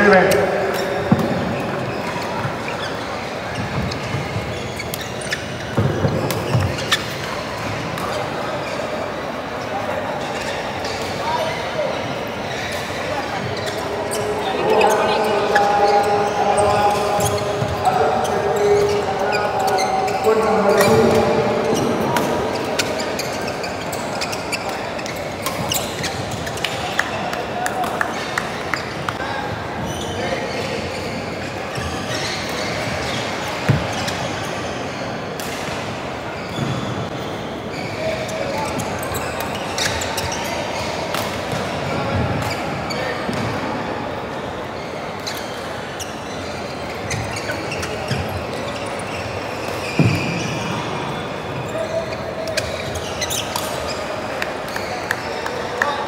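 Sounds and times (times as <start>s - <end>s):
echoing hubbub of voices: 0.0s - 56.0s
murmur of sports hall: 0.0s - 56.0s.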